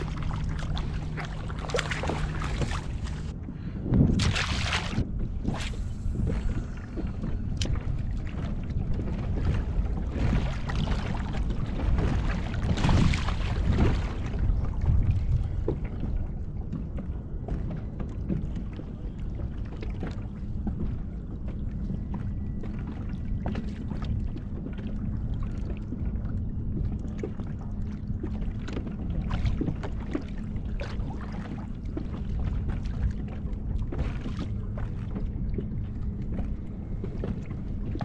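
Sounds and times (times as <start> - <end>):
faint steady hum: 0.0 - 38.0
water and wind rumble: 0.0 - 38.0.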